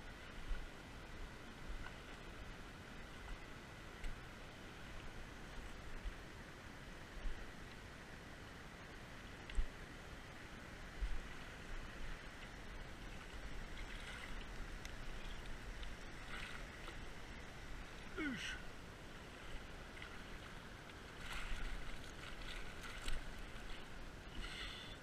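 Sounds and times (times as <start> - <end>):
river flowing over gravel: 0.0 - 25.0.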